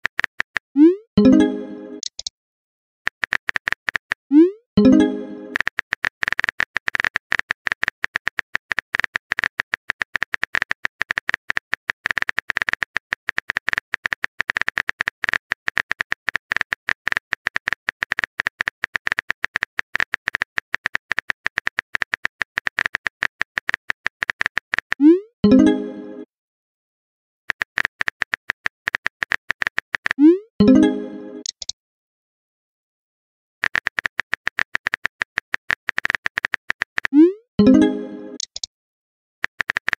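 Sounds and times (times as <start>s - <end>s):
keyboard typing clicks: 1.2s - 2.3s, 3.1s - 4.2s, 4.8s - 25.8s, 27.5s - 31.8s, 33.6s - 38.7s, 39.4s - 39.9s.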